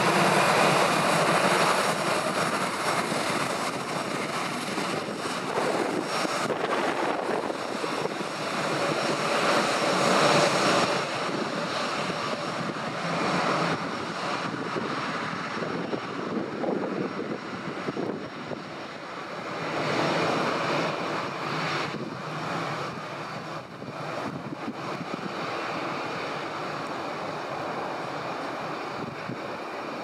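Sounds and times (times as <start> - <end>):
jet engines running: 0.0 - 30.0.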